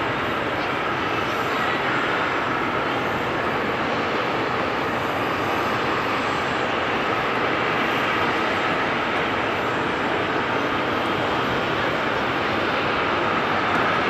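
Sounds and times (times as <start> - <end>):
airliner engines running: 0.0 - 14.0.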